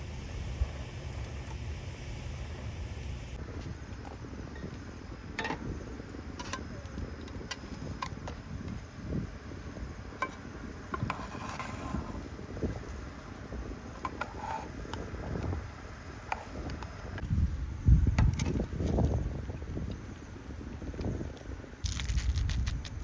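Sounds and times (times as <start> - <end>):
insects chirring: 0.1 - 23.0.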